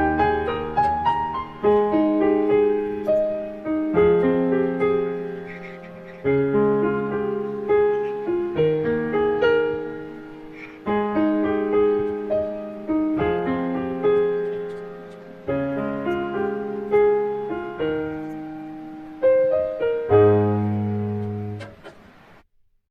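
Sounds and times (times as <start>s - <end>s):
slow solo piano music: 0.0s - 22.3s.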